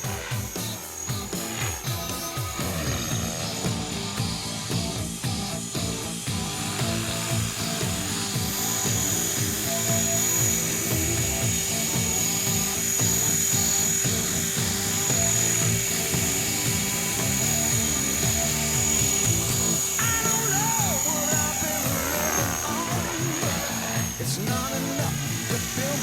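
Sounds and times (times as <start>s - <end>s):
background music: 0.0s - 26.0s
rc helicopter high-pitched whine: 0.0s - 26.0s
steady hum: 0.0s - 26.0s.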